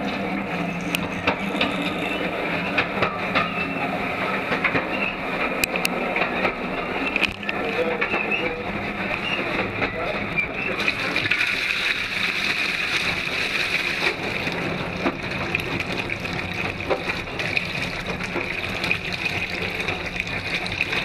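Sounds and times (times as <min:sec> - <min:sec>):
toilet flushing: 0:00.0 - 0:21.0.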